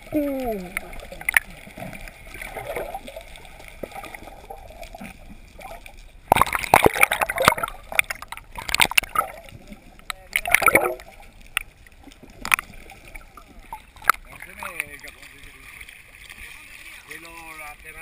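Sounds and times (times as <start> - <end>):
bubbling and splashing: 0.0 - 18.0
muffled underwater wash: 0.0 - 18.0.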